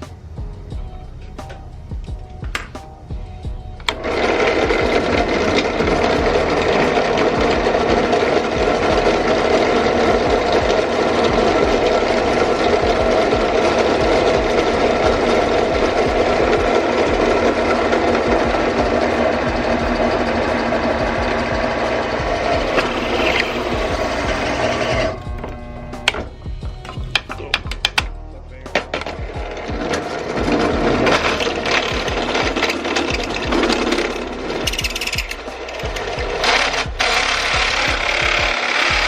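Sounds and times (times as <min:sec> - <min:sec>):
electric drill boring a hole: 0:03.9 - 0:26.4, 0:29.5 - 0:39.0.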